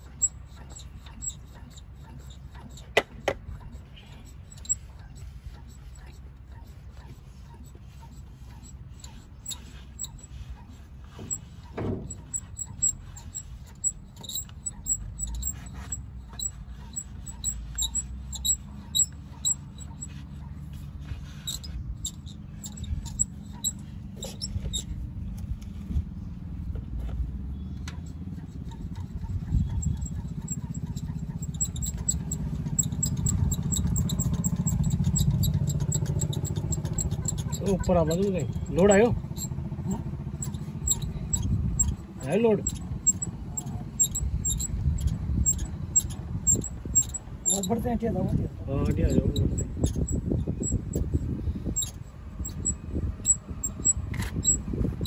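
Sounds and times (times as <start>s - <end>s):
diesel engine running: 0.0s - 55.0s
ticks and squeaks: 0.0s - 55.0s.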